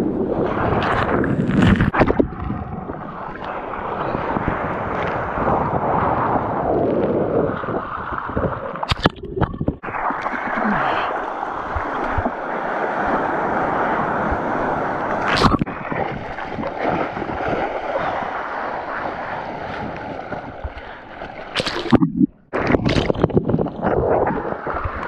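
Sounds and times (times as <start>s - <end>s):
wind buffeting microphone: 0.0s - 25.0s
whitewater splashing: 0.4s - 25.0s.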